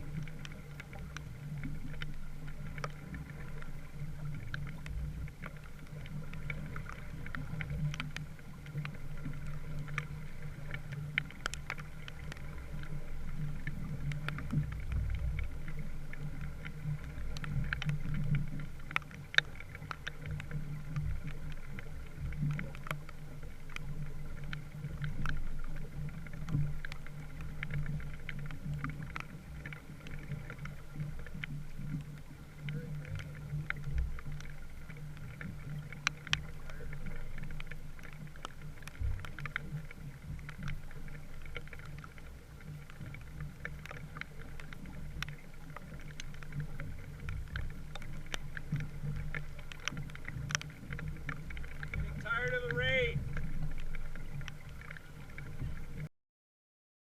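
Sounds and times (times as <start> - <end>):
water splashes: 0.0 - 56.1
water washing along hull: 0.0 - 56.1.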